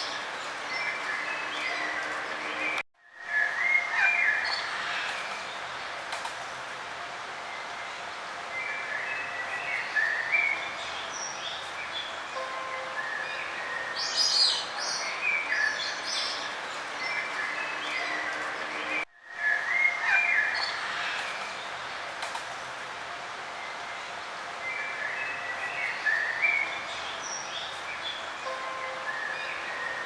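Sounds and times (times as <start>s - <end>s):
outdoor background hiss: 0.0s - 30.0s
songbirds chirping and trilling: 0.0s - 30.0s.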